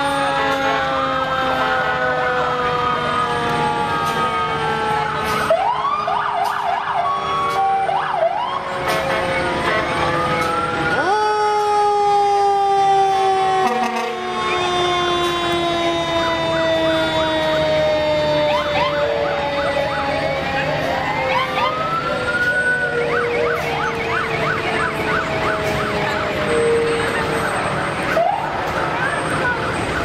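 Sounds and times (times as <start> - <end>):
fire truck sirens wailing: 0.0 - 30.0
rapid siren yelp: 0.0 - 30.0.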